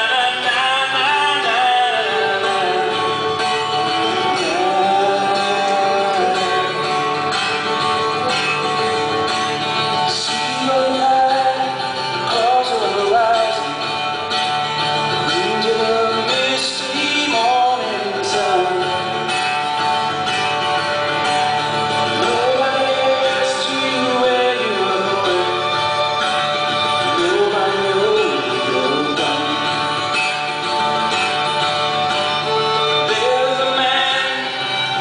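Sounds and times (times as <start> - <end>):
man singing: 0.0 - 8.8, 9.8 - 14.2, 15.1 - 19.4, 22.0 - 30.1, 32.7 - 35.0
guitar: 0.0 - 35.0.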